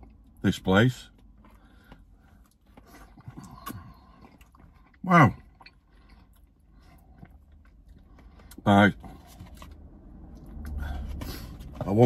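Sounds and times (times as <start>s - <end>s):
man chewing food: 1.1s - 11.9s.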